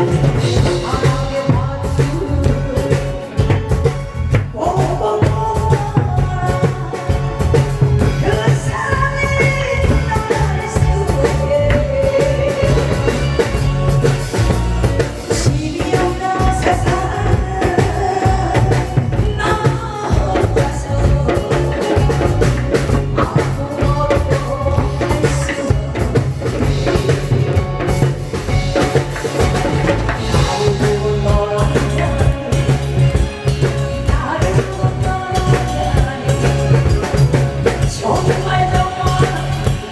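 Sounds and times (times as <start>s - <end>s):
loud music with drum beat: 0.0s - 39.9s.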